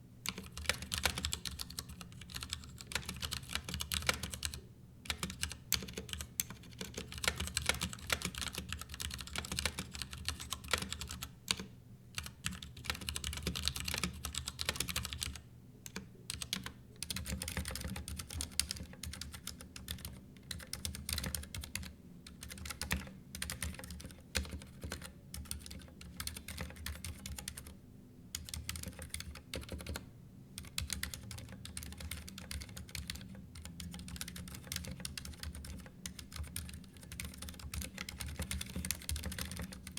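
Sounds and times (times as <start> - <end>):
mechanical keyboard typing: 0.3 - 27.8, 28.4 - 30.0, 30.6 - 39.9.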